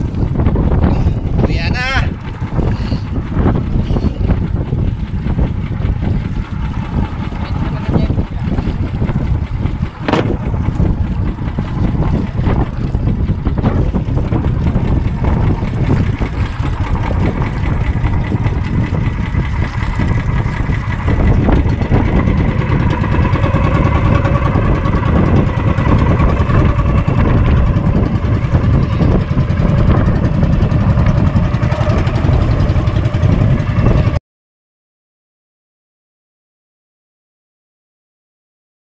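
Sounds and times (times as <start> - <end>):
boat engine running: 0.0 - 34.2
steady whine: 0.0 - 34.2.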